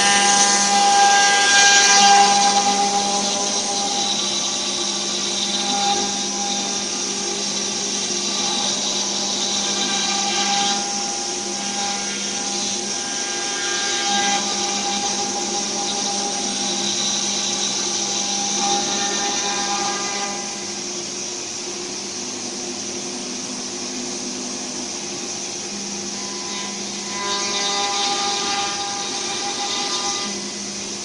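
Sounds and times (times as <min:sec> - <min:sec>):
router spindle high whine: 0:00.0 - 0:31.0.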